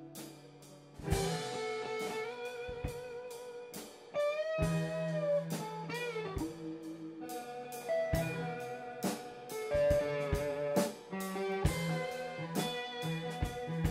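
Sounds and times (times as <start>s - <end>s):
electric guitar bending notes: 1.0s - 13.9s.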